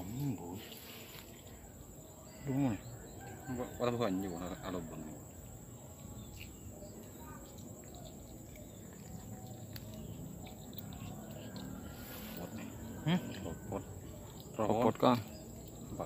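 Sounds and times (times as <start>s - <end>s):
crickets chirping: 0.0s - 16.0s
faint low chatter: 0.0s - 16.0s.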